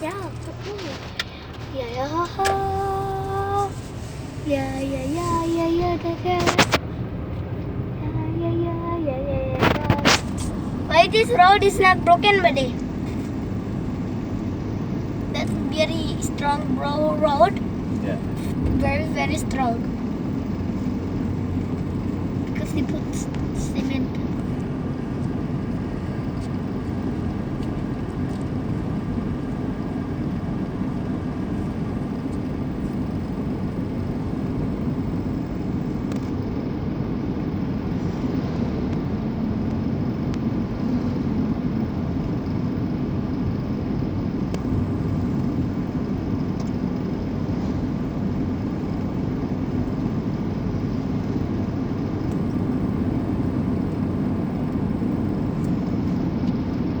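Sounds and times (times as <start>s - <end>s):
road noise: 0.0s - 57.0s
vehicle engine: 0.0s - 57.0s.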